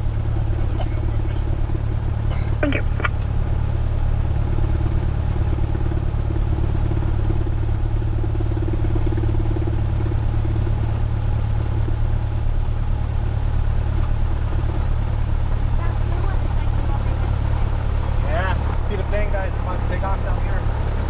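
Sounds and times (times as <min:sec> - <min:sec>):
airplane engine and propeller drone: 0:00.0 - 0:21.0.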